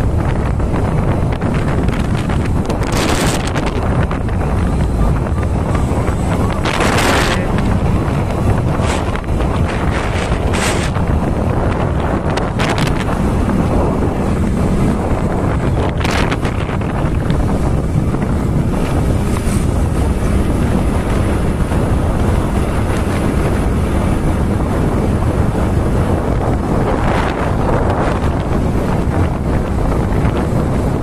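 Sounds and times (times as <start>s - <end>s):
motorcycle engine and road noise: 0.0s - 31.0s
wind rushing over microphone: 0.0s - 31.0s.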